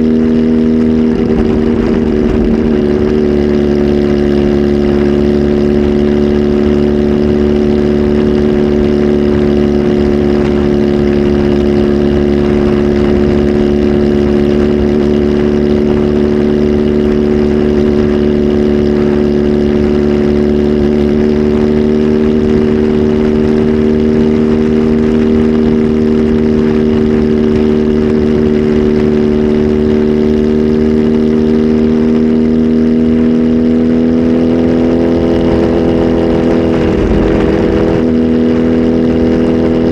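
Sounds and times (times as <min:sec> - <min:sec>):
motorcycle engine running loudly: 0:00.0 - 0:39.9.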